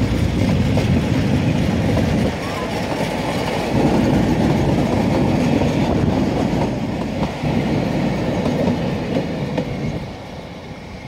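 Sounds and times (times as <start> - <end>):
train carriages rumbling past: 0.0 - 11.0.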